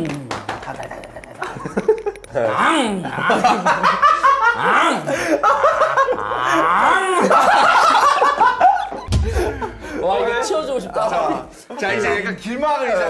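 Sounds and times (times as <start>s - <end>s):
men laughing: 0.5s - 11.8s.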